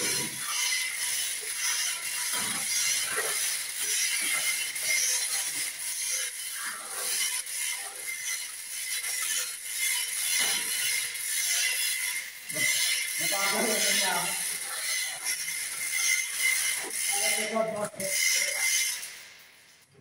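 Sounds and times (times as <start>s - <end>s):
ratchet clicking: 0.0s - 19.8s.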